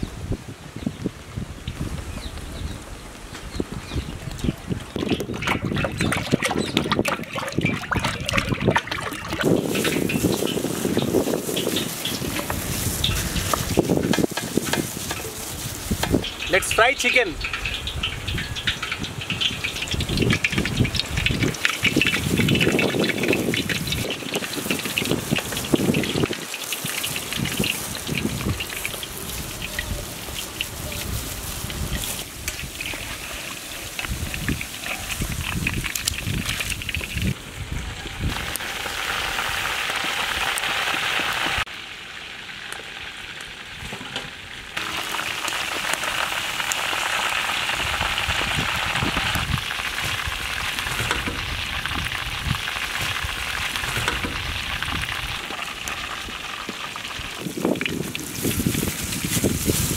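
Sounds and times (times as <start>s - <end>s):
oil sizzling and crackling: 1.6s - 59.9s.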